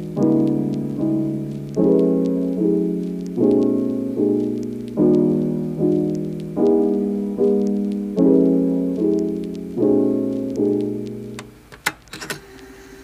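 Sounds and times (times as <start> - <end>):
soft piano chords: 0.0 - 11.7.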